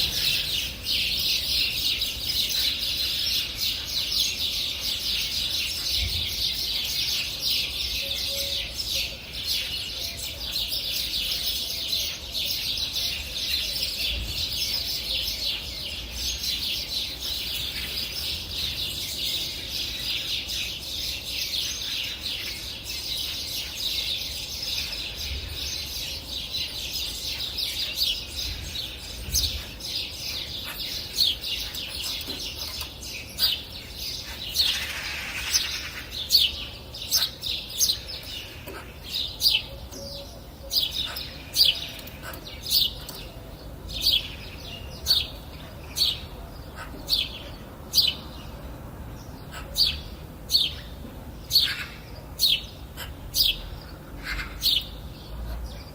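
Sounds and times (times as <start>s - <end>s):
birds chirping in chorus: 0.0s - 55.9s.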